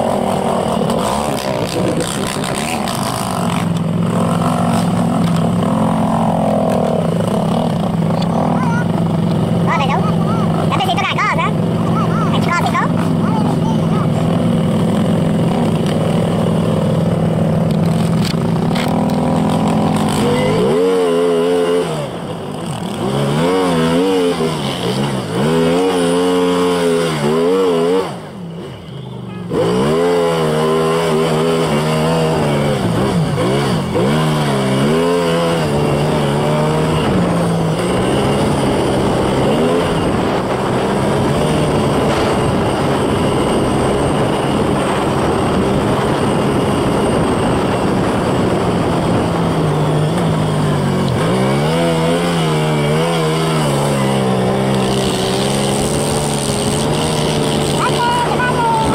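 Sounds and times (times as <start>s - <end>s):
snowmobile engine revving: 0.0s - 28.8s, 29.4s - 58.9s.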